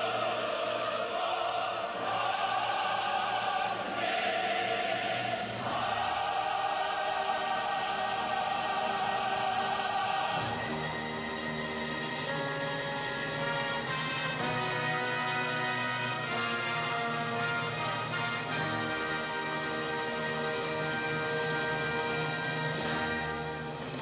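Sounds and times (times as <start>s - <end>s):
choir singing long notes: 0.0s - 24.0s
musical accompaniment: 0.0s - 24.0s.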